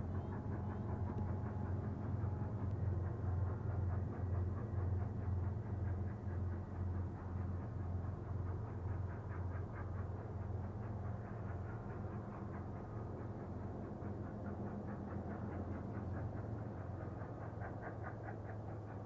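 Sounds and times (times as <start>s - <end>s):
distant steam train rumble: 0.0s - 19.0s.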